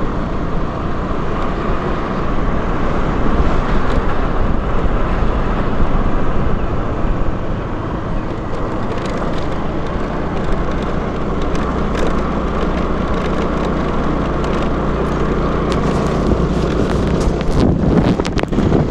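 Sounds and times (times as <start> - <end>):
road noise: 0.0 - 18.9
scooter engine running: 0.0 - 18.9
wind buffeting microphone: 0.0 - 18.9.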